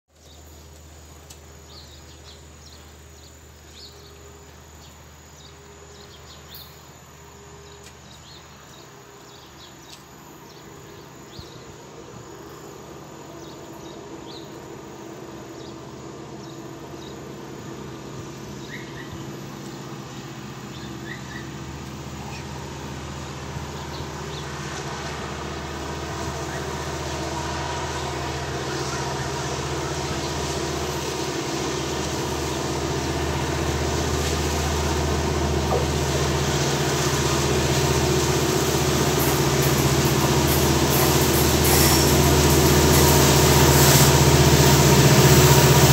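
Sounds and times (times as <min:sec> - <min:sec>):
diesel locomotive engine drone: 0:00.1 - 0:45.9.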